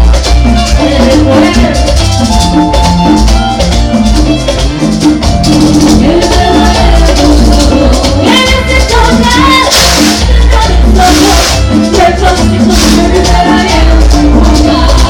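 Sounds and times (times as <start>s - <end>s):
heavy bass line: 0.0s - 15.0s
latin dance band music: 0.0s - 15.0s
maracas shaking: 0.0s - 15.0s.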